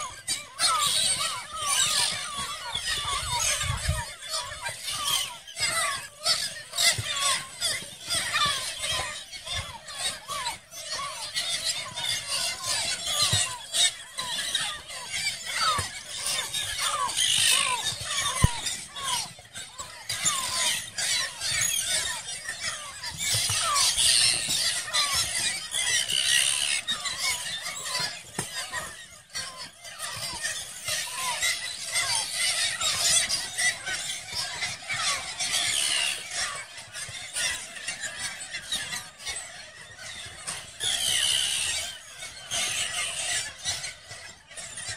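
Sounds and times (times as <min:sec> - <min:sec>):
flock of terns calling: 0:00.0 - 0:44.9.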